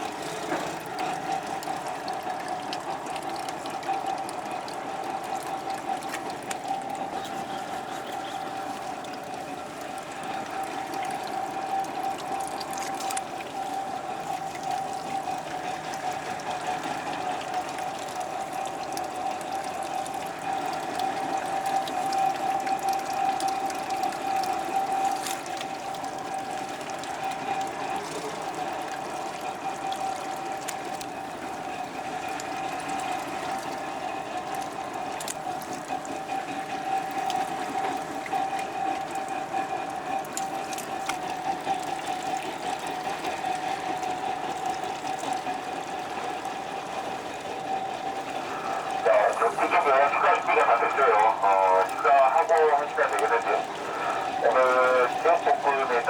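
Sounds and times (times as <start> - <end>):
boat engine whining: 0.0 - 56.0
water rushing along hull: 0.0 - 56.0.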